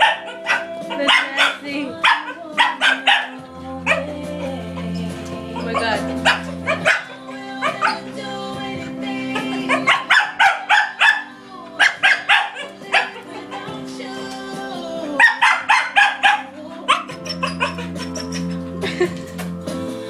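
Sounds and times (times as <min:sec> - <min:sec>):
dogs barking: 0:00.0 - 0:19.6
background music: 0:00.0 - 0:20.0.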